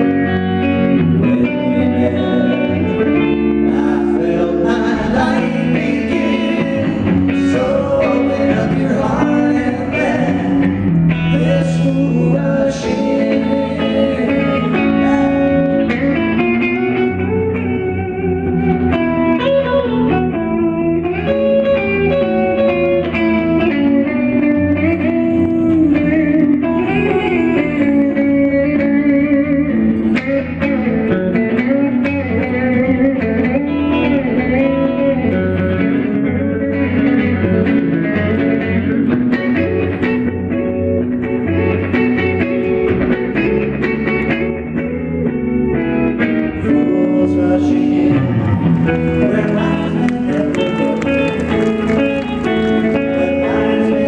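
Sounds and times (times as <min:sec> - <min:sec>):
man singing: 0:00.0 - 0:17.8, 0:21.0 - 0:38.8, 0:44.5 - 0:54.0
live pop-rock band playing: 0:00.0 - 0:54.0.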